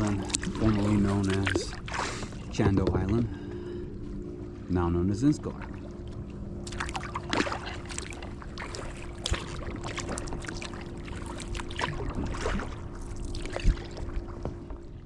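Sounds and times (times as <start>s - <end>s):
paddle splashes and drips: 0.0s - 3.2s, 5.5s - 15.0s
steady low hum: 0.0s - 15.0s.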